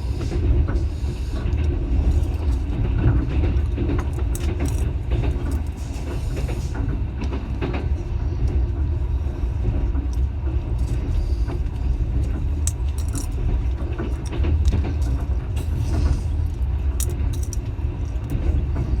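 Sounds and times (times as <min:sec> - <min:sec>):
train rumbling on rails: 0:00.0 - 0:19.0
rattles and clicks: 0:00.2 - 0:08.8, 0:09.6 - 0:19.0.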